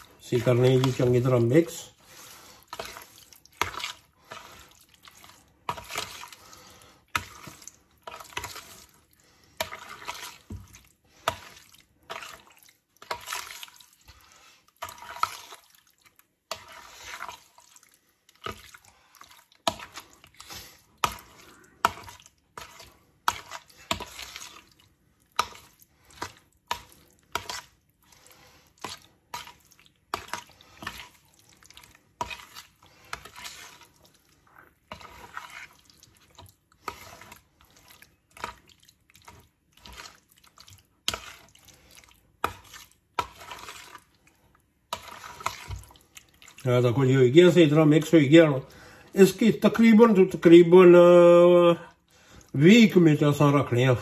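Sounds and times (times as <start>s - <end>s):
spoon stirring wet marinade: 0.0s - 54.0s.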